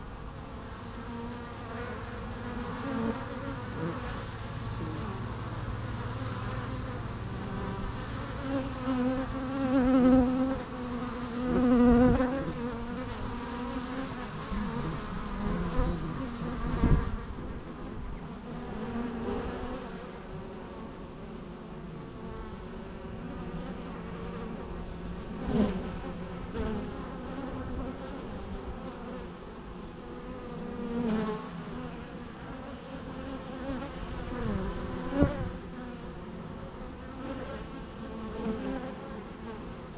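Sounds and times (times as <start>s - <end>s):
bees buzzing: 0.6s - 20.8s, 22.1s - 39.9s.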